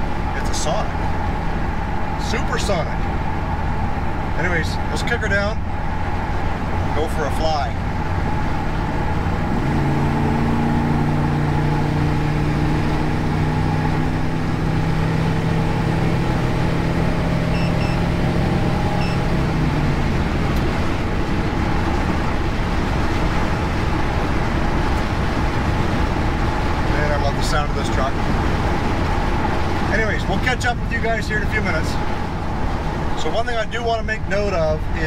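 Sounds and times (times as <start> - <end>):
pickup engine droning: 0.0 - 35.0
road and wind noise: 0.0 - 35.0.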